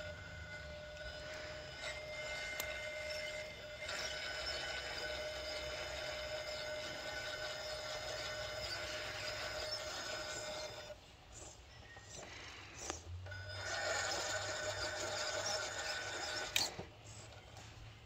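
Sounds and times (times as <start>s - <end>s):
electric motor whine: 0.0s - 11.0s, 12.0s - 17.7s.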